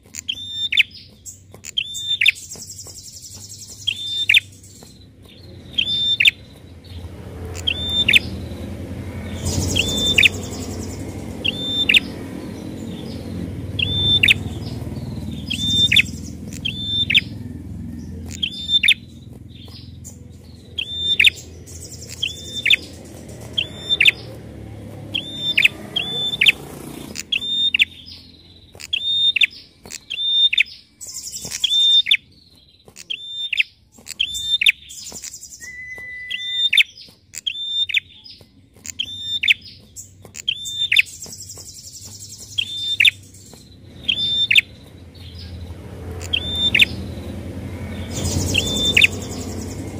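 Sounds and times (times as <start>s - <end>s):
bird calling with falling notes: 0.0s - 49.9s
bird chattering: 0.0s - 49.9s.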